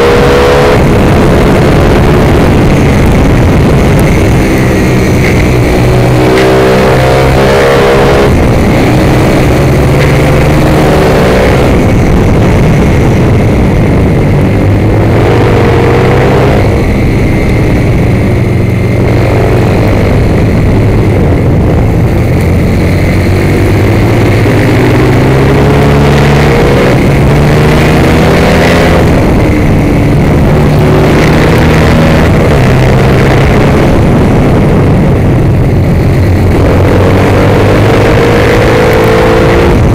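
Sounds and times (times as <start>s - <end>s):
racing motorcycle engine revving: 0.0s - 39.9s
wind noise on microphone: 0.0s - 39.9s.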